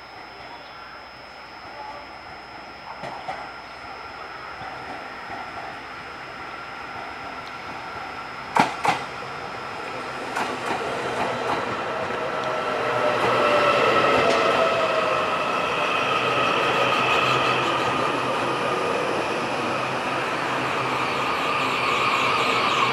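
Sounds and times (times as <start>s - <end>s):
steady high whine: 0.0s - 22.9s
train running noise: 0.0s - 22.9s.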